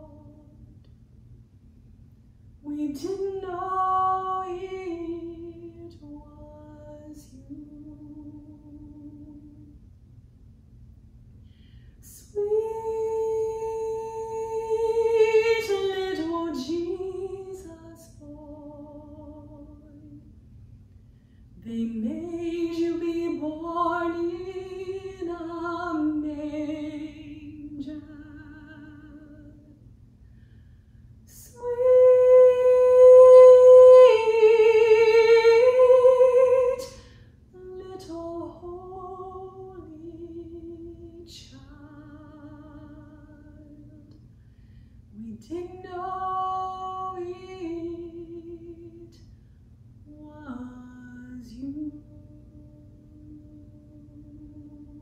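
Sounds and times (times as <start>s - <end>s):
woman singing with vibrato: 0.0s - 0.6s, 2.6s - 9.8s, 12.0s - 20.3s, 21.6s - 29.8s, 31.3s - 44.1s, 45.1s - 49.2s, 50.1s - 55.0s.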